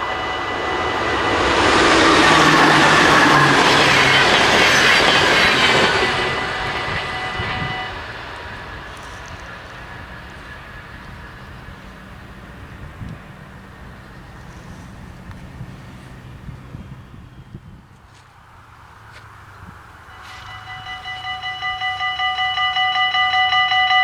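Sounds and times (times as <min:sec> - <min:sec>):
level crossing warning bells: 0:00.0 - 0:16.4, 0:19.9 - 0:24.0
train passing: 0:00.0 - 0:24.0.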